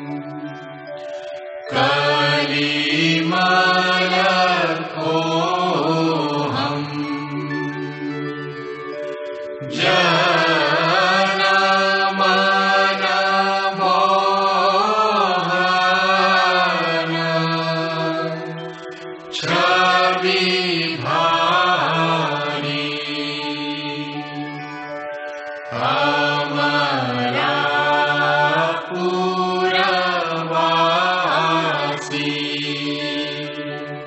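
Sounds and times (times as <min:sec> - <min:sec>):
person chanting: 0:01.7 - 0:07.7, 0:09.6 - 0:18.7, 0:19.3 - 0:24.5, 0:25.7 - 0:34.0.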